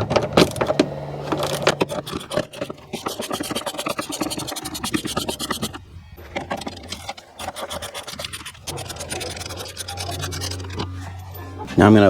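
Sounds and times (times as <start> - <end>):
steady low hum: 0.0 - 12.0
ratchet clicking: 0.4 - 10.9
light scraping: 0.4 - 12.0.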